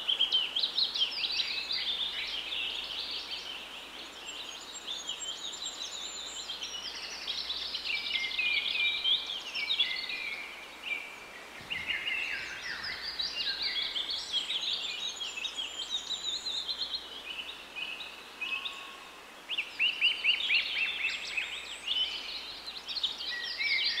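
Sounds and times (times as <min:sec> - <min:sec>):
songbirds singing and chirping: 0:00.0 - 0:24.0.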